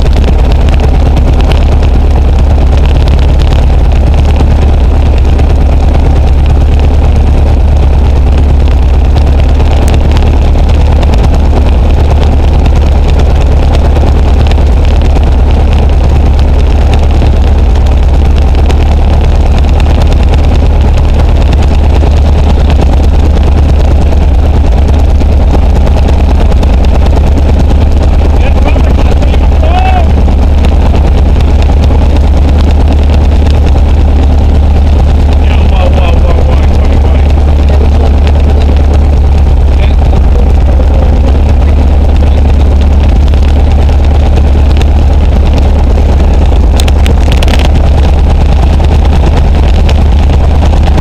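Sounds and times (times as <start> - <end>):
light aircraft engine droning: 0.0 - 51.0
propeller noise: 0.0 - 51.0.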